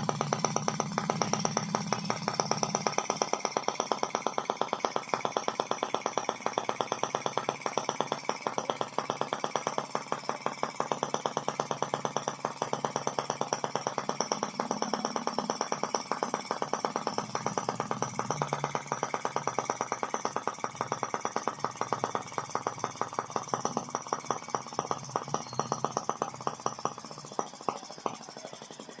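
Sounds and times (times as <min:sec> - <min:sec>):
single-cylinder engine popping: 0:00.0 - 0:29.0.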